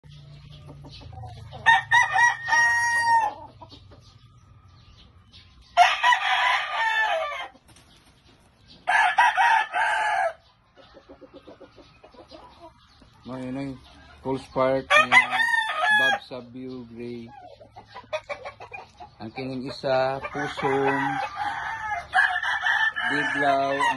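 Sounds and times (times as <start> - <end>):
roosters crowing: 0.1 - 7.9, 8.6 - 23.9.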